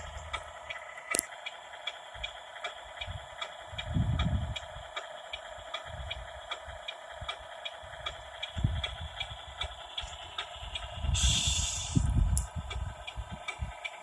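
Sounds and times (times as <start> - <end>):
even ticking: 0.0 - 14.0
low rumbles: 0.0 - 14.0.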